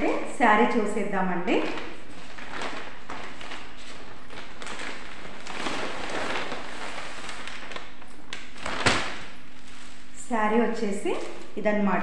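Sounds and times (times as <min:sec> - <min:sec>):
shopping bag rustling and crinkling: 0:00.0 - 0:11.8.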